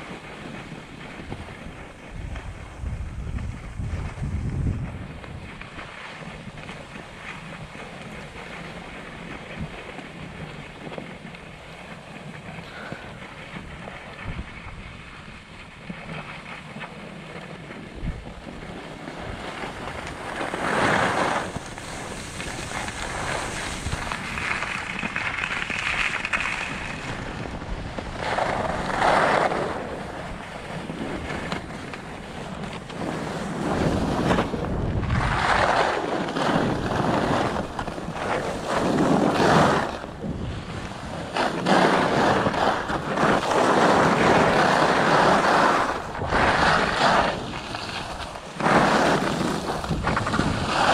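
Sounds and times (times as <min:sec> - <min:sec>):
skis scraping on snow: 0:00.0 - 0:50.9
wind on microphone: 0:00.0 - 0:50.9.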